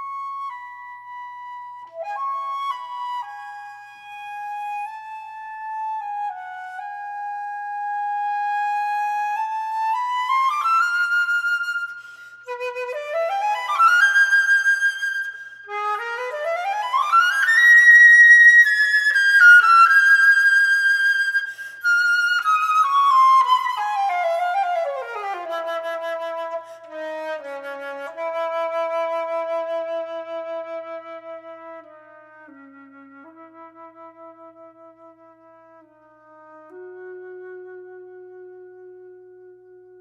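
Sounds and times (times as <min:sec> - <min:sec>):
solo flute playing: 0:00.0 - 0:40.0.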